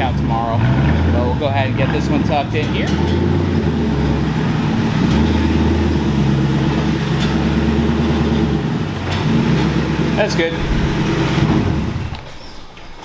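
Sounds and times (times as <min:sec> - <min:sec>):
car engine at low speed: 0:00.0 - 0:12.3.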